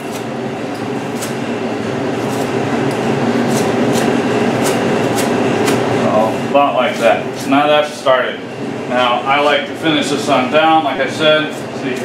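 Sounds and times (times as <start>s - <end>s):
refrigeration unit humming: 0.0s - 12.0s.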